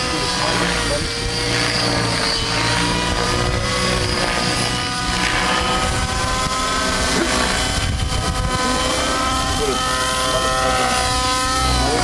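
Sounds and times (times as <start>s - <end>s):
model helicopter motor whine: 0.0s - 12.0s.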